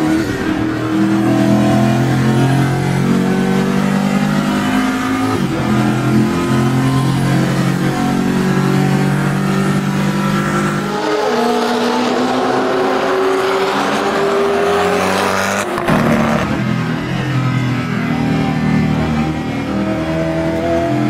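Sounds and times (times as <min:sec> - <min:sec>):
car engine inside cabin: 0:00.0 - 0:21.0.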